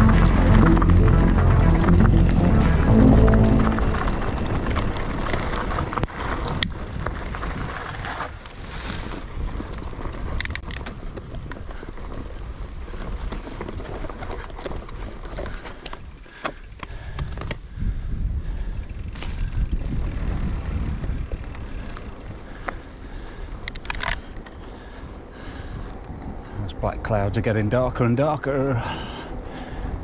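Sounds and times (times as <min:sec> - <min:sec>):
bike tyre noise: 0:00.0 - 0:26.6
bike clicks and rattles: 0:00.1 - 0:17.8, 0:18.4 - 0:26.5.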